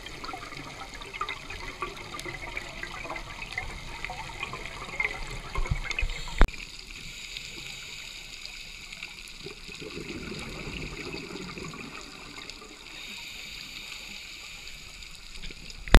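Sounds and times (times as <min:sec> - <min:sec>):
underwater breath bubbling: 0:00.0 - 0:15.1.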